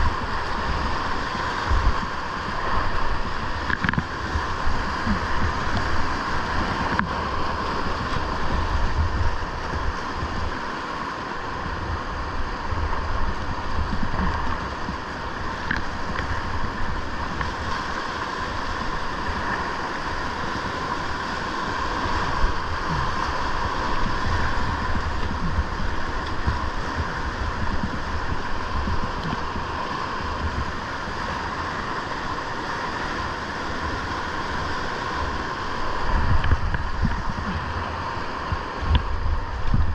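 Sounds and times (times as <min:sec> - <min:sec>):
whitewater rapids rushing: 0:00.0 - 0:39.9
wind buffeting microphone: 0:00.0 - 0:39.9.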